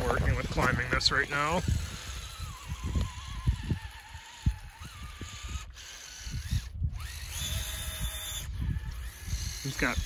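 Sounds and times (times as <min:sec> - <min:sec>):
low irregular thumps and rumble: 0:00.0 - 0:09.6
electric motor whining: 0:00.0 - 0:10.0.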